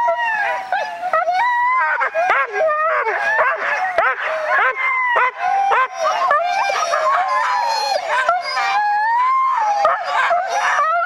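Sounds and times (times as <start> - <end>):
sled dogs howling and yipping: 0.0 - 11.0.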